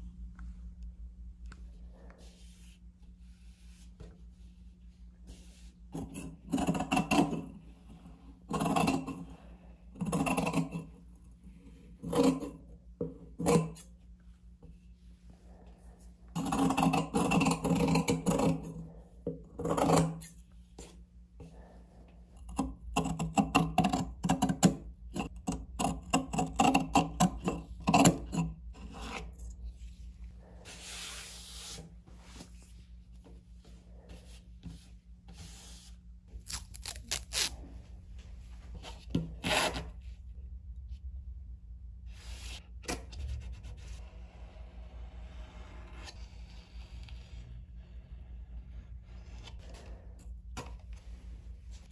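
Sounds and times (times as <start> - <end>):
faint low hum: 0.0 - 51.9.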